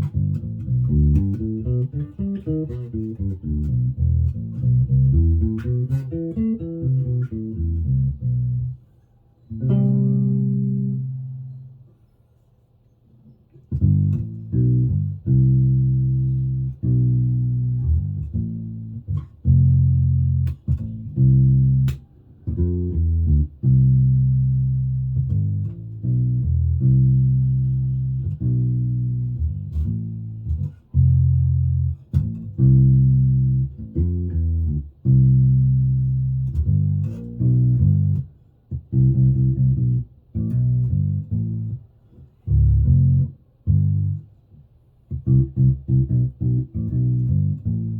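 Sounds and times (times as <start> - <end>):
bass guitar plucked notes: 0.0 - 8.8, 9.5 - 11.8, 13.6 - 47.9.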